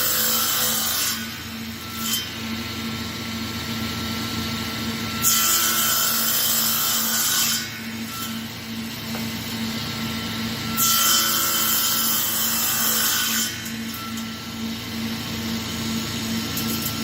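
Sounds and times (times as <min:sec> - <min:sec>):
saw blade cutting wood: 0:00.0 - 0:02.6, 0:05.1 - 0:17.0
table saw running: 0:00.0 - 0:17.0.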